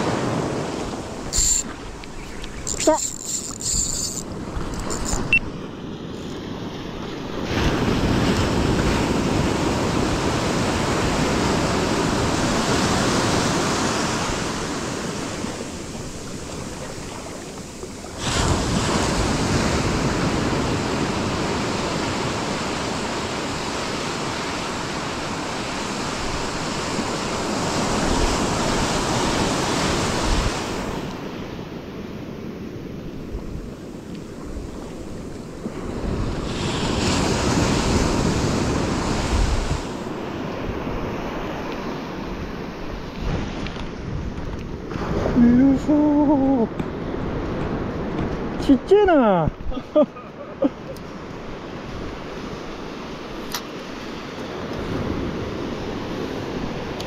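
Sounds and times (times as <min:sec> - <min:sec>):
wind on microphone: 0:00.0 - 0:31.4, 0:33.0 - 0:48.6
waves breaking on a beach: 0:00.0 - 0:57.0.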